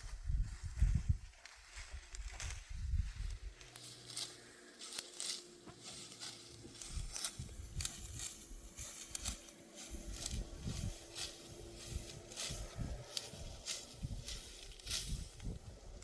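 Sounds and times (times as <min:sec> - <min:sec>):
dry wheat stalks crackling: 0:00.1 - 0:16.0.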